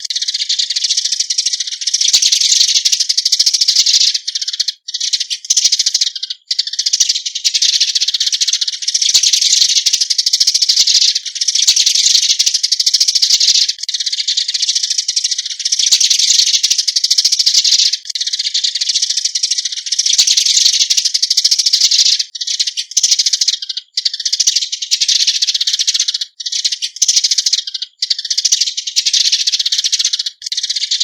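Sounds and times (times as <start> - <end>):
sparrows chattering: 0.0 - 31.0.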